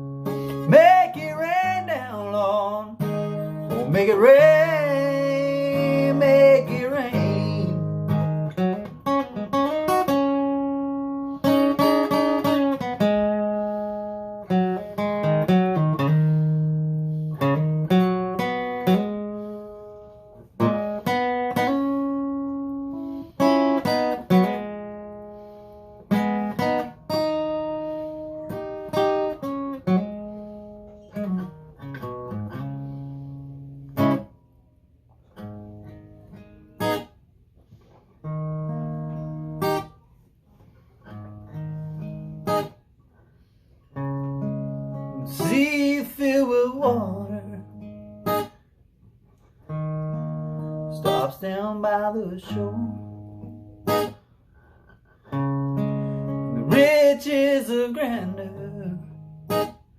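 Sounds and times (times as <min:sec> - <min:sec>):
acoustic blues guitar: 0:00.0 - 0:59.9.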